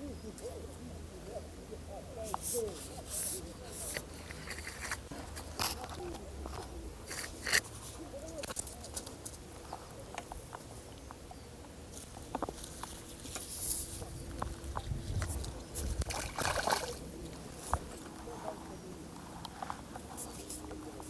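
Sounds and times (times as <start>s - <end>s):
handling clicks and rustles: 2.2s - 21.0s.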